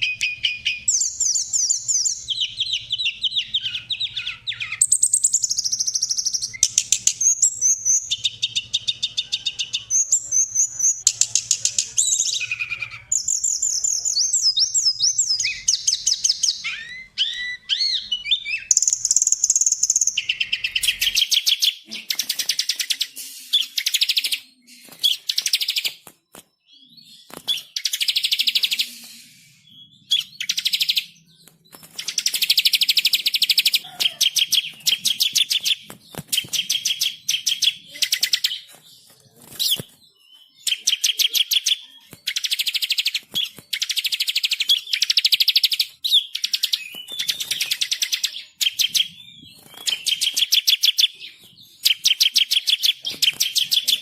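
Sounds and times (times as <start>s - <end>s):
songbirds trilling and warbling: 0.0s - 54.0s.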